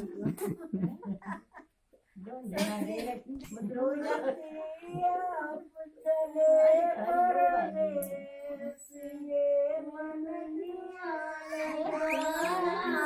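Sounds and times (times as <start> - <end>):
women singing unaccompanied: 2.2 - 13.0.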